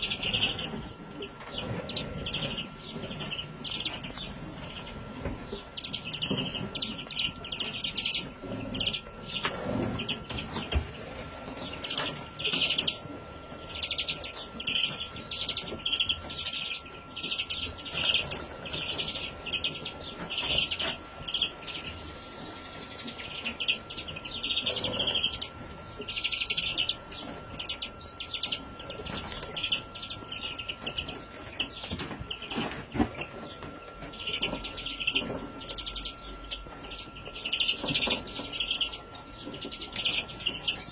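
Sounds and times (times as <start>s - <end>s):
birds calling: 0.0s - 40.9s
faint steady high tone: 0.0s - 40.9s.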